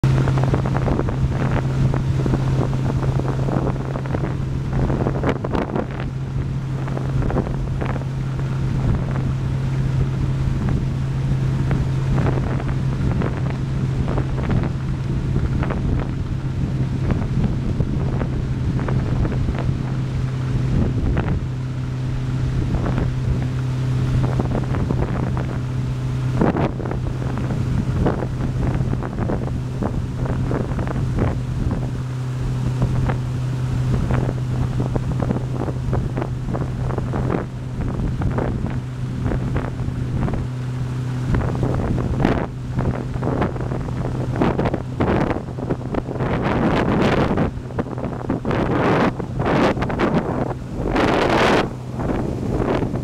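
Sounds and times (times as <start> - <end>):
motorboat engine humming: 0.0 - 53.0
wind buffeting the microphone: 0.0 - 53.0.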